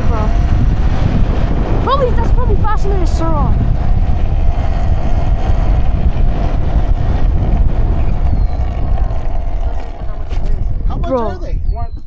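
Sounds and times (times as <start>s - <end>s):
steady hum: 0.0s - 11.2s
wind buffeting microphone: 0.0s - 12.0s.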